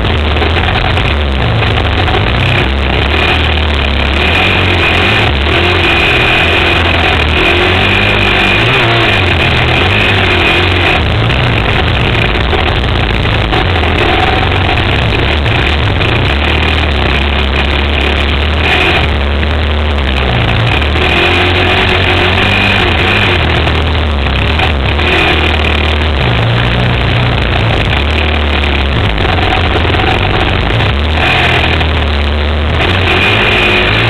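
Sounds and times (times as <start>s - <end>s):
quad engine revving: 0.0s - 34.0s
steady rushing noise: 0.0s - 34.0s.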